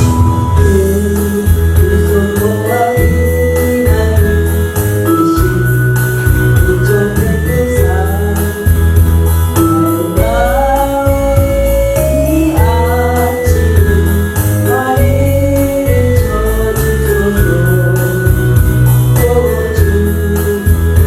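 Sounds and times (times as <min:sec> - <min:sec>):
keyboard accompaniment: 0:00.0 - 0:21.0
steady bass beat: 0:00.0 - 0:21.0
woman singing with vibrato: 0:00.0 - 0:21.0.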